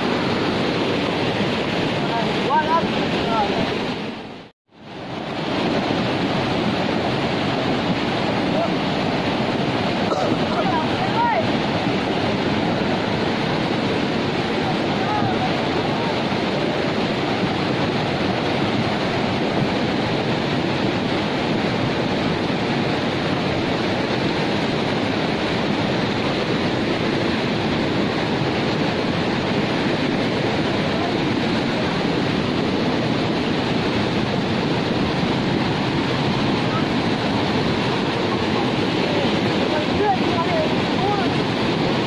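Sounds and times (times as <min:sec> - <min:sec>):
flooded river rushing: 0:00.0 - 0:42.0.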